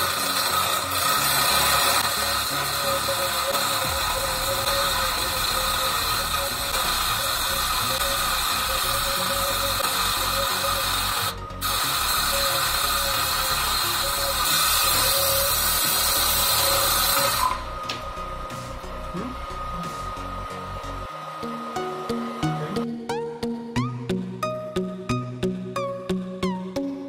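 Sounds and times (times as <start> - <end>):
small electric motor whirring: 0.0 - 23.0.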